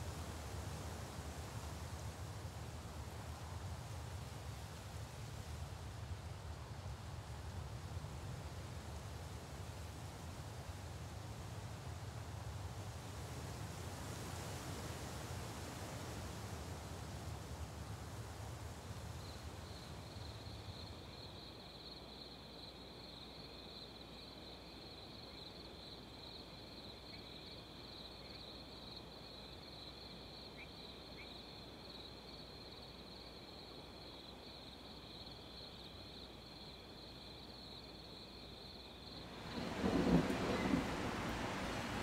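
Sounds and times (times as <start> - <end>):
soft background hiss: 0.0 - 42.0.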